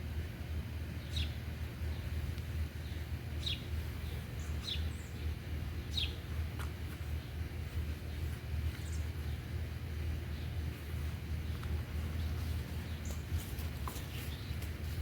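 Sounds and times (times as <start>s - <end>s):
bird chirping: 1.0s - 2.2s, 2.8s - 7.4s, 8.0s - 9.6s, 10.2s - 15.0s.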